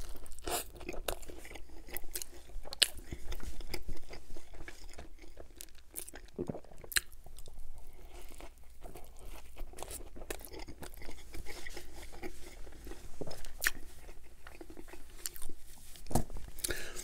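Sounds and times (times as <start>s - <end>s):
chewing with mouth closed: 0.0s - 15.5s.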